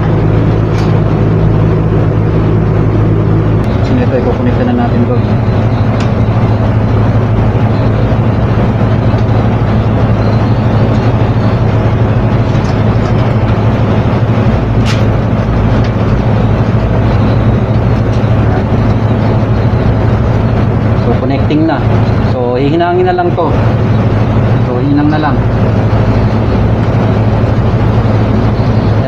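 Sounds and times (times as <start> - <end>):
machine hum with low drone: 0.0 - 29.0.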